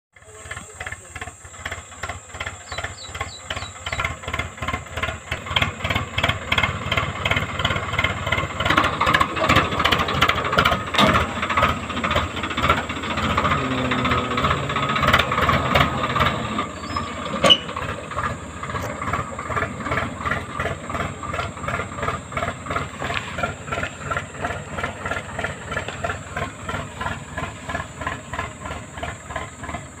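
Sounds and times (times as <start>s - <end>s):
tractor diesel engine under load: 0.1s - 30.0s.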